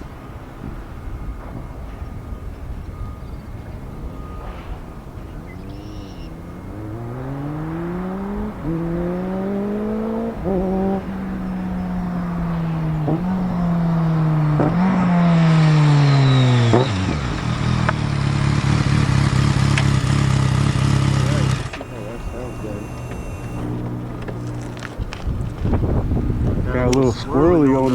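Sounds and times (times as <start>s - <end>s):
motorcycle engine accelerating: 0.0s - 27.9s.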